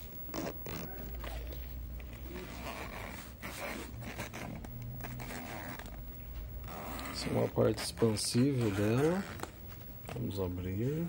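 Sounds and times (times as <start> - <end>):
zipper being pulled: 0.3 - 9.5.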